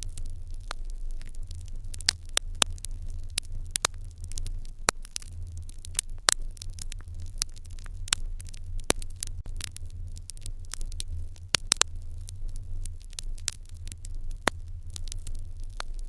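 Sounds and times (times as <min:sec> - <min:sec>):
fire crackling and popping: 0:00.0 - 0:16.0
low steady rumble: 0:00.0 - 0:16.0.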